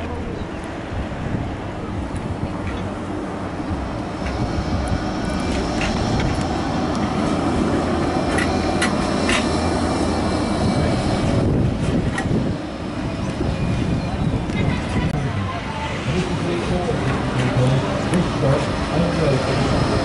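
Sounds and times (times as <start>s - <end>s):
tram rumbling past: 0.0s - 20.0s.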